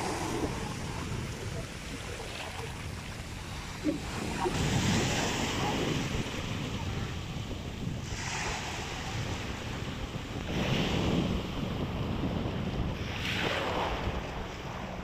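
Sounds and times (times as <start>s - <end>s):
small waves washing on beach: 0.0s - 15.0s
wind rumbling on microphone: 0.0s - 15.0s.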